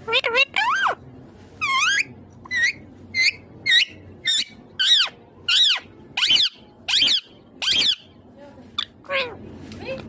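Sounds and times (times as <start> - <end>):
parrot squawking: 0.0 - 1.0, 1.6 - 8.2, 8.8 - 9.4.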